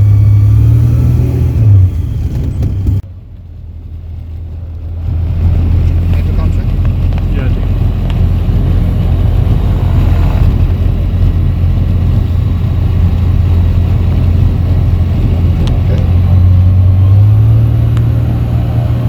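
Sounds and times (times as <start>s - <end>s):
light aircraft engine: 1.9s - 19.0s.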